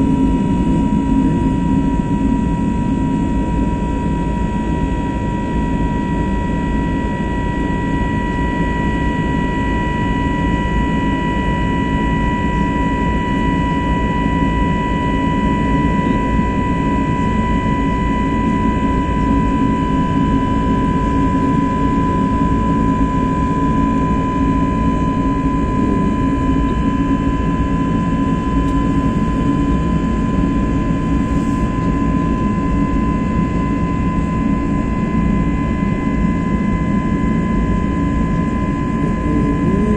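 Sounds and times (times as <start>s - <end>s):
jet engines heard from cabin: 0.0s - 39.9s.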